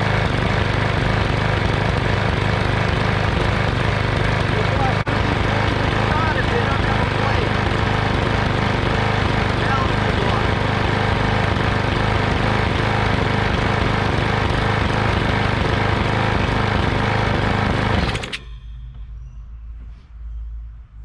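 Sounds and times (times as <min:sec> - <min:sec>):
lawn mower engine running: 0:00.0 - 0:18.4.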